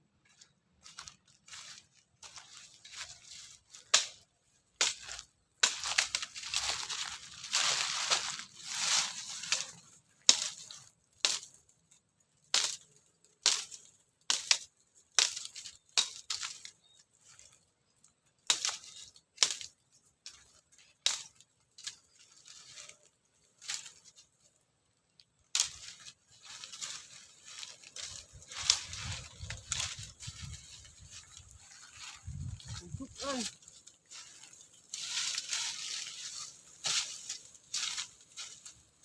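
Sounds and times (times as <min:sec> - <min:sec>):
twigs and leaves crackling: 0:00.1 - 0:39.0.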